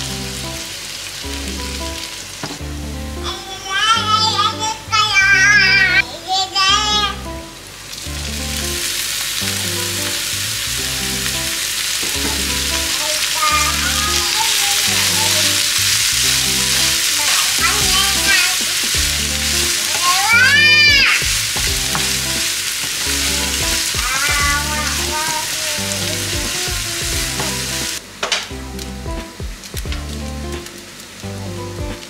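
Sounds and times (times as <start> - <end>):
chicken sizzling in oil: 0.0 - 4.0, 5.6 - 32.0.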